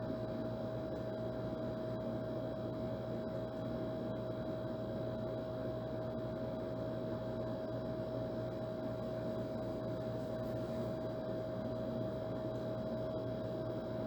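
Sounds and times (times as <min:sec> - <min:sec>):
air conditioner running: 0:00.0 - 0:14.0.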